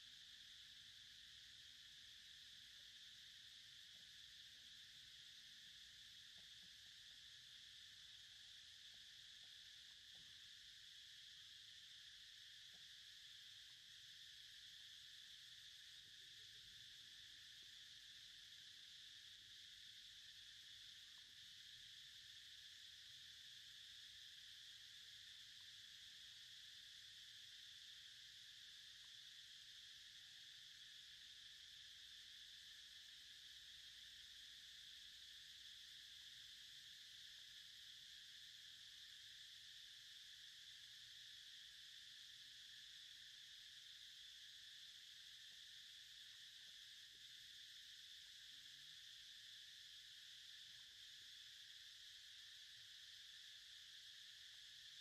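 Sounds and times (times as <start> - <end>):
faint insect chorus: 0.0 - 55.0.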